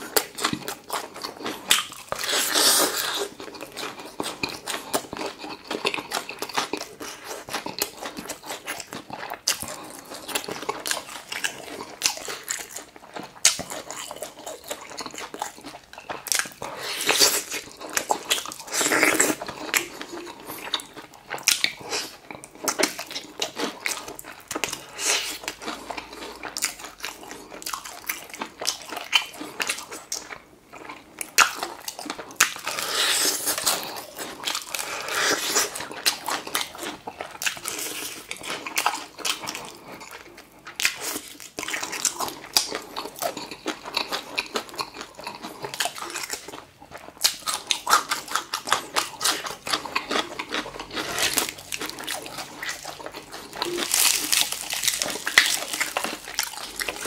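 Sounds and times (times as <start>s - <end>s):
person chewing crispy fried chicken: 0.0s - 57.0s.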